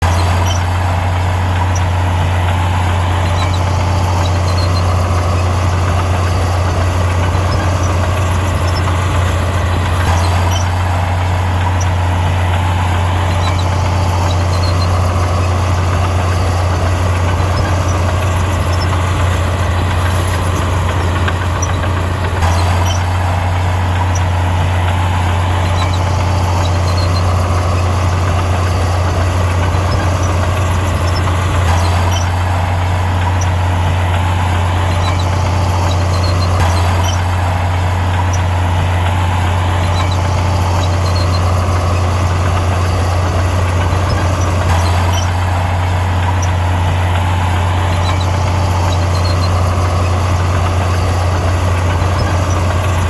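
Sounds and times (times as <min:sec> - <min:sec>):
diesel engine droning: 0:00.0 - 0:53.0.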